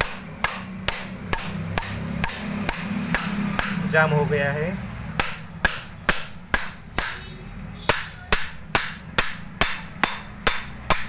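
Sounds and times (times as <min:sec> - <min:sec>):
hammer striking metal: 0:00.0 - 0:04.0, 0:05.2 - 0:11.0.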